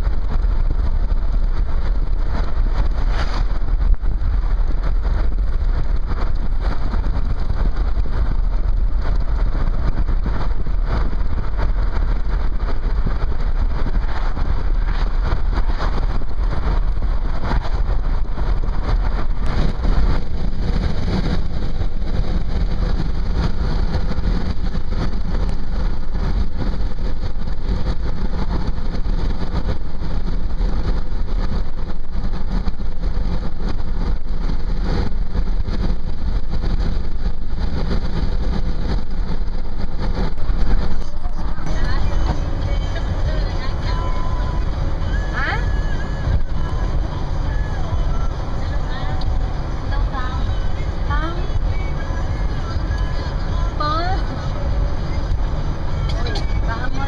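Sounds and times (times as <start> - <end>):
rumble of tyres and engine: 0.0 - 57.0.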